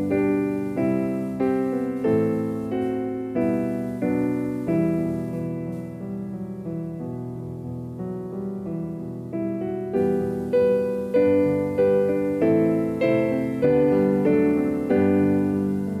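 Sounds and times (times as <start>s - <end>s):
slow solo piano carol: 0.0s - 16.0s.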